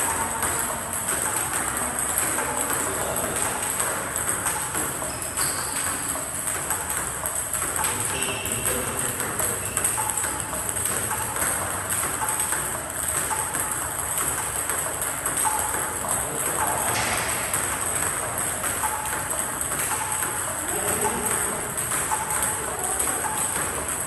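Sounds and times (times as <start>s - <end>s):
table tennis balls clicking: 0.0s - 24.0s.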